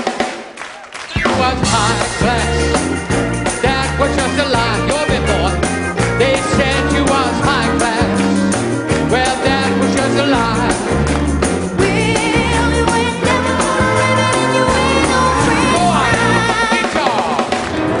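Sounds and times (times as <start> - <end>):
rock and roll band: 0.0 - 18.0.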